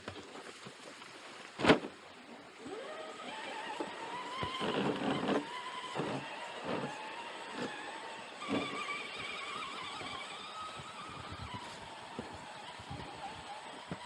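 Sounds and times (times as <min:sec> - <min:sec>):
electric motor and gears whining: 0:02.6 - 0:14.0.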